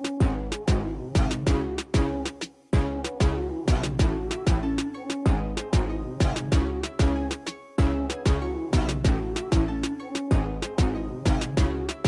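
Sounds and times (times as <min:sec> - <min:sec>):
background music with a beat: 0:00.0 - 0:12.0
kick drum: 0:00.2 - 0:02.2, 0:02.8 - 0:12.0.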